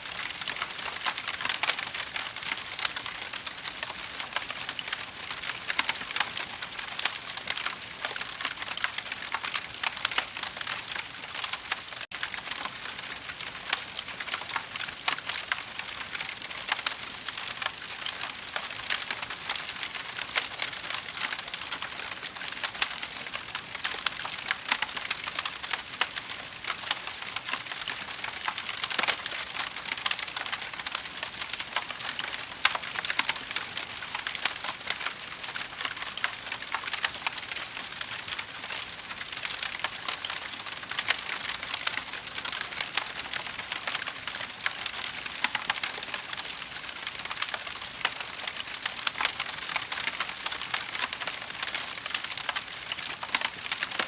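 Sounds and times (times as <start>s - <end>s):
fire crackling: 0.1s - 54.0s.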